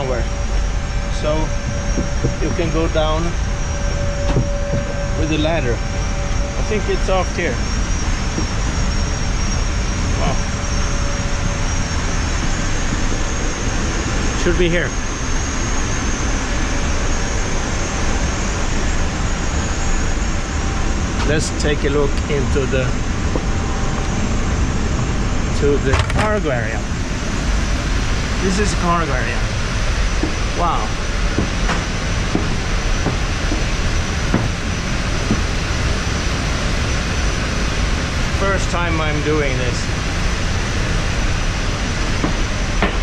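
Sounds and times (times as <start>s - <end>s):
loud aircraft roar: 0.0s - 43.0s
low machinery hum: 0.0s - 43.0s
thin high whine: 0.0s - 43.0s.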